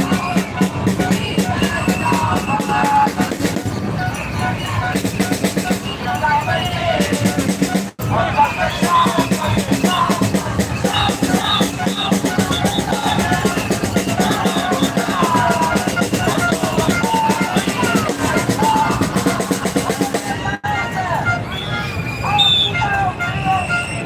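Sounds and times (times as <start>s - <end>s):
drums beating fast rhythm: 0.0s - 21.4s
scattered voices: 0.0s - 24.0s.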